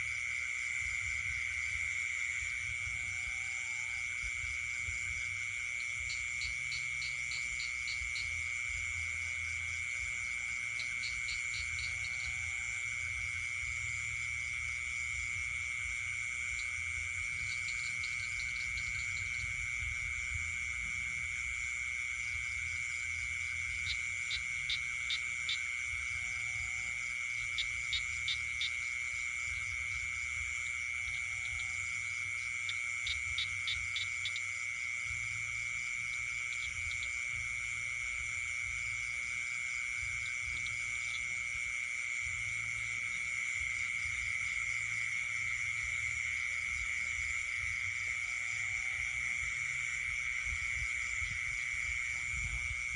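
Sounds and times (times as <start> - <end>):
frogs rapid pulsed calls: 0.0 - 52.9
high insect trill: 0.0 - 52.9.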